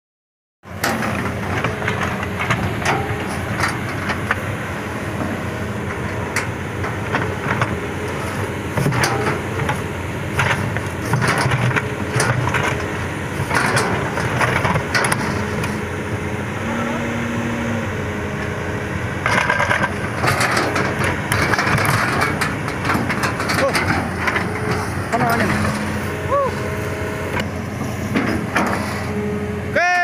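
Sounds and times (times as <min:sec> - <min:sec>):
excavator diesel engine running: 0:00.6 - 0:30.0.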